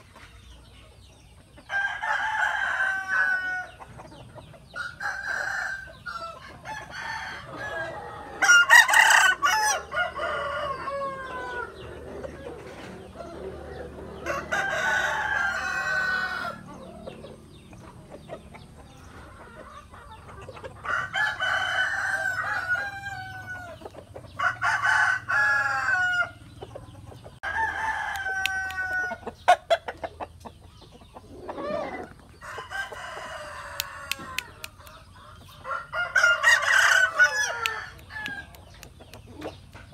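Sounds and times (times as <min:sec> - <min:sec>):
hens clucking: 0:00.0 - 0:39.9
roosters crowing: 0:01.6 - 0:39.9.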